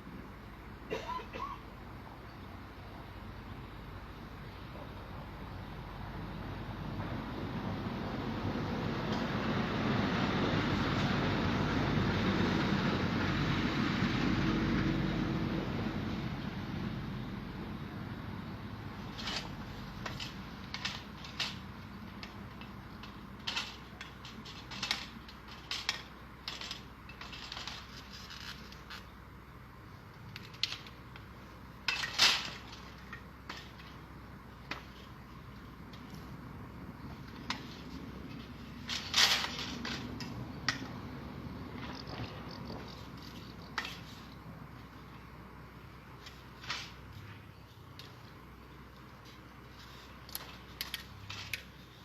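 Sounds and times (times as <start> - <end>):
steady rumbling noise: 0.0 - 52.0.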